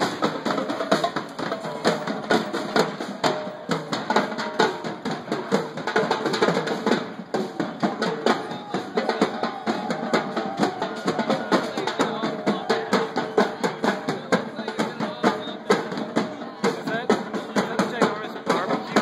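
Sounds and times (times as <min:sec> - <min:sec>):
drummers playing fast beat: 0:00.0 - 0:19.0.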